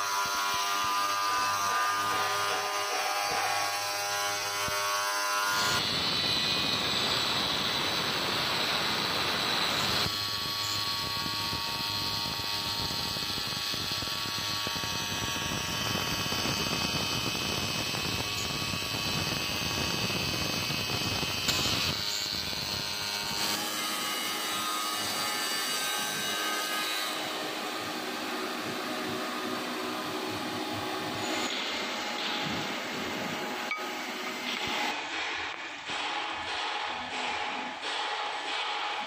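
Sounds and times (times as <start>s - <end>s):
electric motors humming: 0.0s - 35.0s.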